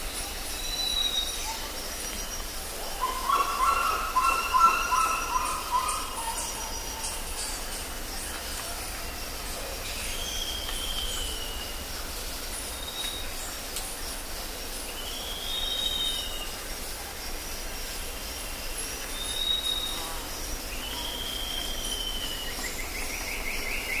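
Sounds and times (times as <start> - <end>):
high insect chirping: 0.0 - 24.0.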